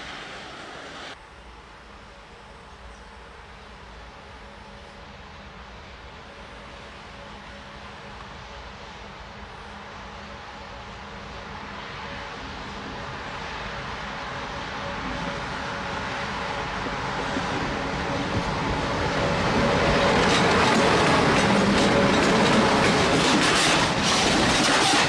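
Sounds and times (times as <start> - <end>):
train rumble and hum: 0.0 - 25.0.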